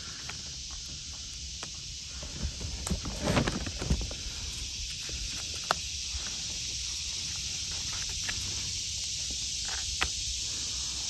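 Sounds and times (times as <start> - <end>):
high woodland hiss: 0.0 - 11.0.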